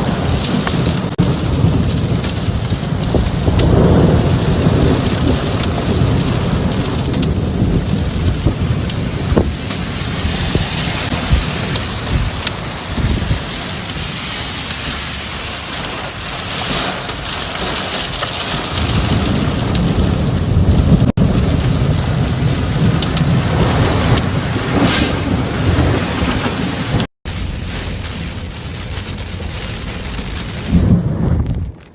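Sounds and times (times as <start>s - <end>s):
heavy rain falling: 0.0s - 31.9s
thunder rumbling: 0.0s - 31.9s.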